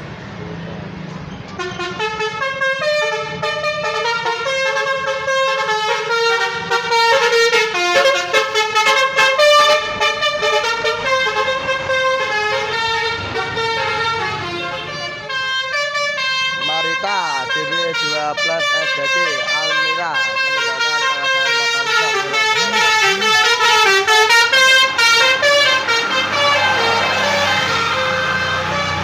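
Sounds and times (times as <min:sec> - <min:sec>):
bus engine rumble: 0:00.0 - 0:29.0
multi-tone bus horn melody: 0:01.5 - 0:29.0.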